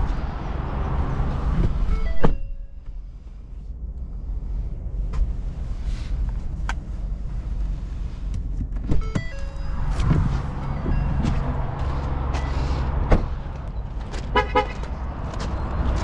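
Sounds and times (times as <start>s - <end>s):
low steady rumble: 0.0s - 14.1s.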